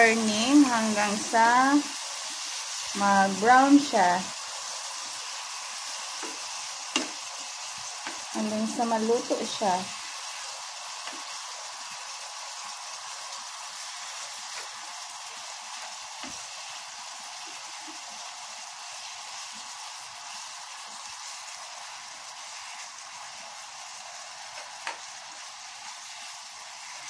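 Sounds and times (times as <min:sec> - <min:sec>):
beef sizzling in a frying pan: 0:00.0 - 0:27.0.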